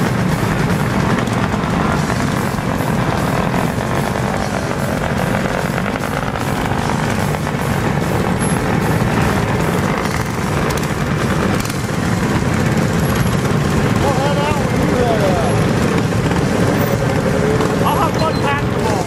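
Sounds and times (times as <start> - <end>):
mini bike engines rumbling: 0.0 - 19.0.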